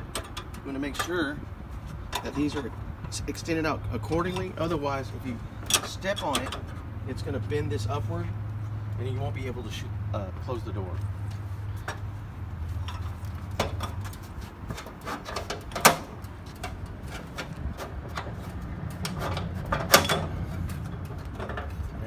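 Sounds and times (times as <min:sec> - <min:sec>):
metal steps clanking: 0:00.0 - 0:22.0.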